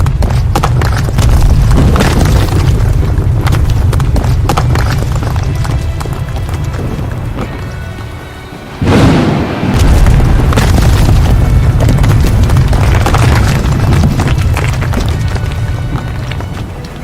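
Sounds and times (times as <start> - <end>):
explosion boom and rumbling: 0.0 - 7.6, 8.8 - 16.7
music: 2.6 - 17.0.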